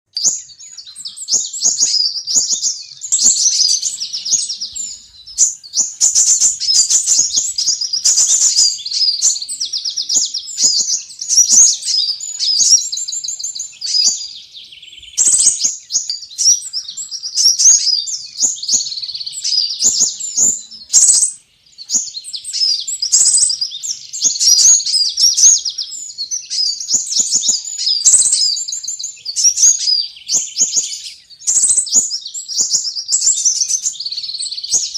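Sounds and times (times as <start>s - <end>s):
birds chirping and twittering: 0.1s - 34.9s.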